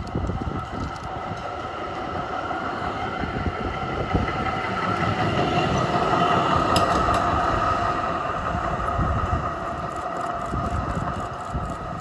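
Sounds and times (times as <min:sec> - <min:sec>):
electric tram whine: 0:00.0 - 0:12.0
tram wheels rumbling on rails: 0:00.0 - 0:12.0.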